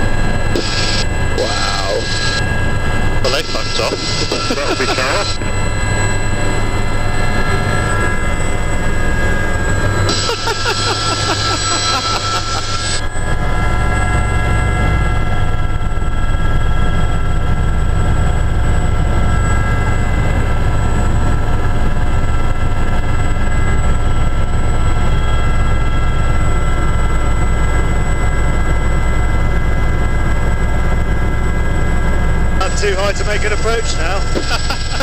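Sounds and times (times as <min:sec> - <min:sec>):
helicopter rotor and engine drone: 0:00.0 - 0:35.0
high whine: 0:00.0 - 0:35.0.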